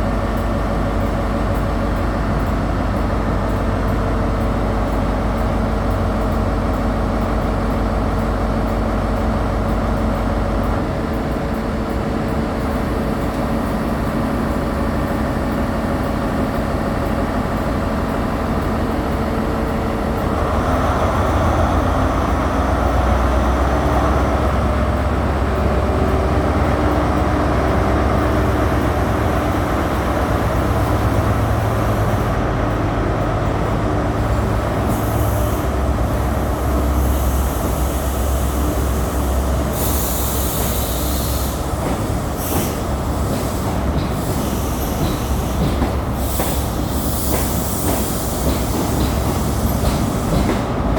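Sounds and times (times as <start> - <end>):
diesel train engine: 0.0 - 50.9.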